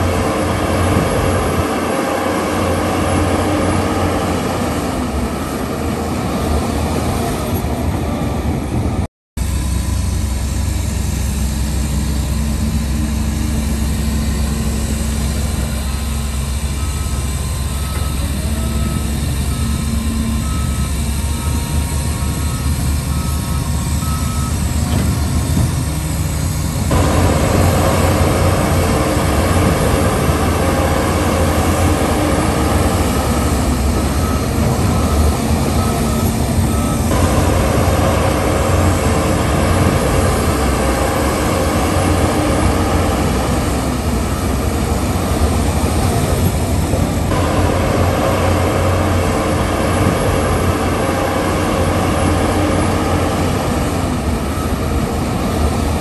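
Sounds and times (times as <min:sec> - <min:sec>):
reversing alarm beeping: 0:00.0 - 0:08.8, 0:09.4 - 0:56.0
heavy diesel engines running: 0:00.0 - 0:56.0.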